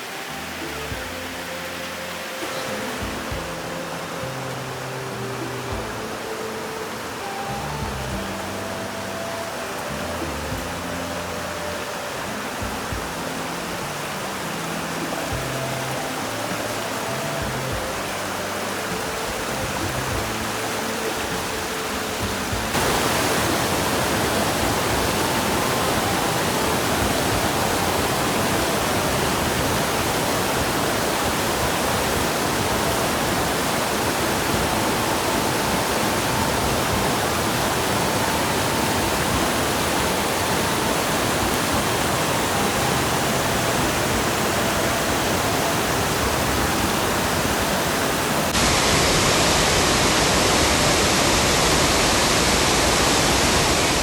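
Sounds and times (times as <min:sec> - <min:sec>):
faint music: 0:00.0 - 0:54.0
waterfall rushing: 0:00.0 - 0:54.0.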